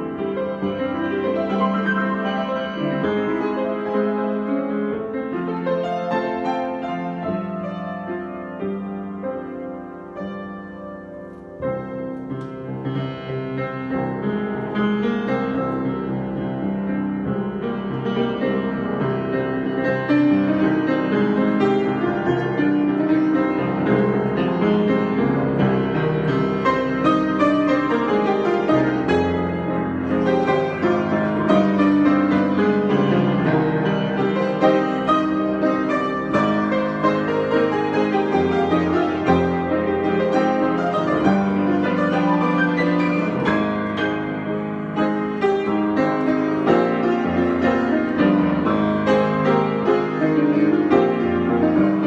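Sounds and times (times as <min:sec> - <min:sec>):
solo piano improvisation: 0:00.0 - 0:52.0.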